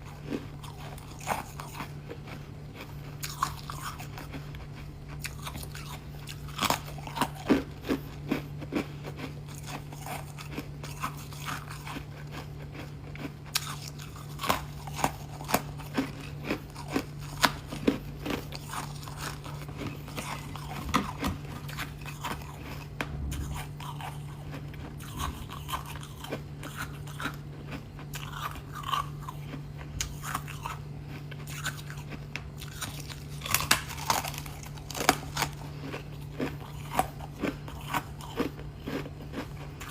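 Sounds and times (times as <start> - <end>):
crunchy ice being chewed: 0.0 - 39.9
steady low hum: 0.0 - 39.9.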